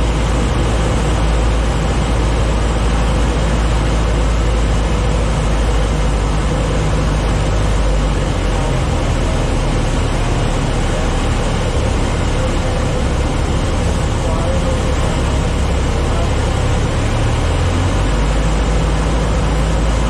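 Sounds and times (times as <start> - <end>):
airplane engine drone: 0.0 - 20.0.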